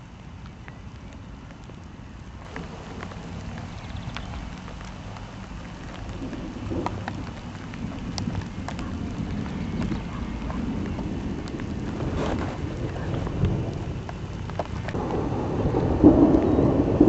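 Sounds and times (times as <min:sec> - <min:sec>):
raindrops tapping: 0:00.0 - 0:17.0
wind rumbling on microphone: 0:00.0 - 0:17.0.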